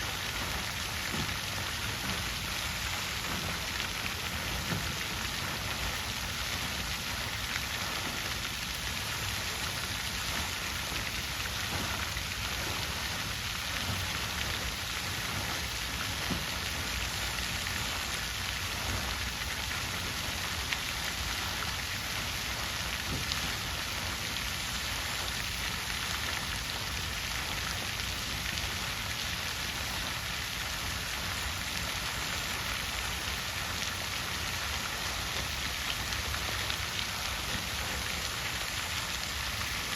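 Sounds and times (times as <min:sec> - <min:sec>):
water fountain splashing: 0:00.0 - 0:39.9.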